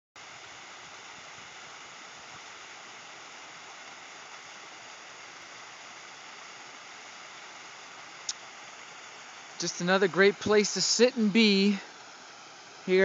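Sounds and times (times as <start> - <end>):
fountain water splashing into pool: 0.2 - 13.0.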